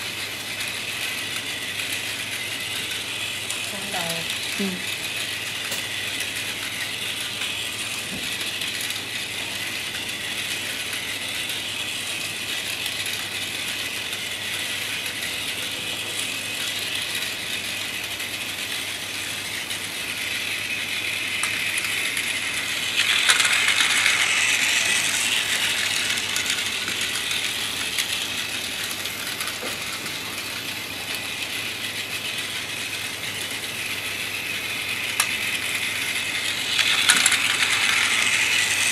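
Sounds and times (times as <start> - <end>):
toy train whirring and clattering: 0.0 - 38.9.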